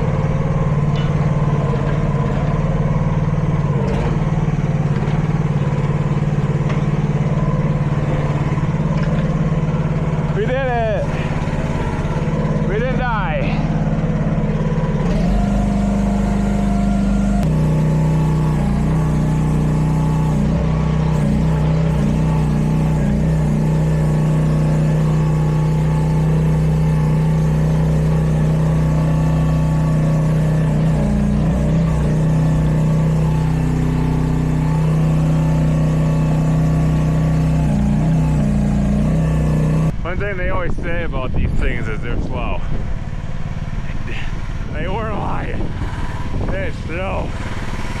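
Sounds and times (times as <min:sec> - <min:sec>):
excavator engine running: 0:00.0 - 0:48.0.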